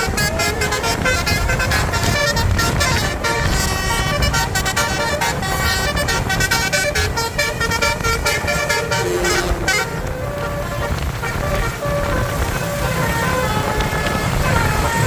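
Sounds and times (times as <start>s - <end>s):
bus and road rumble: 0.0s - 15.0s
multi-tone musical bus horn: 0.0s - 15.0s.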